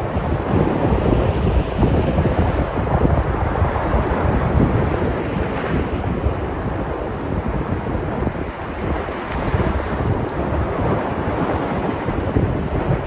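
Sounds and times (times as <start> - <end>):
waves breaking on shore: 0.0 - 13.0
wind rumbling on microphone: 0.0 - 13.0.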